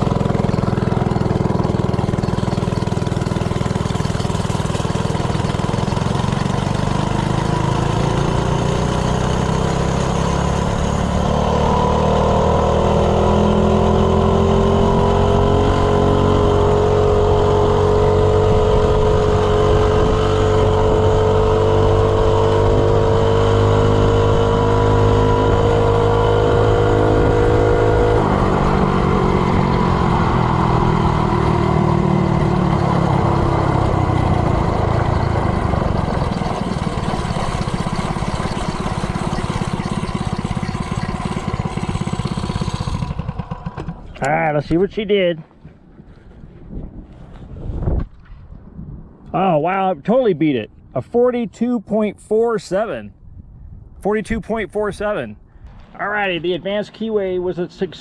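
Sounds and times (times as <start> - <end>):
minibike engine at full throttle: 0.0 - 48.3, 54.7 - 58.0.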